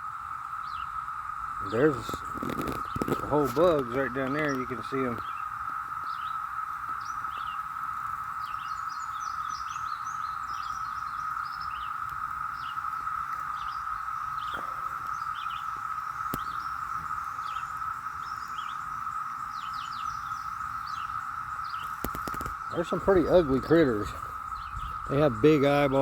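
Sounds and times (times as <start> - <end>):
birds chirping: 0.0 - 26.0
cicadas droning: 0.0 - 26.0.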